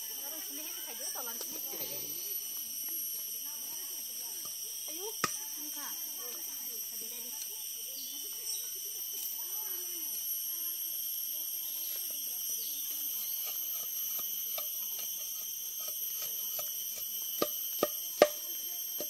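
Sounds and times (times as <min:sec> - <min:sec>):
insect chorus droning: 0:00.0 - 0:19.0.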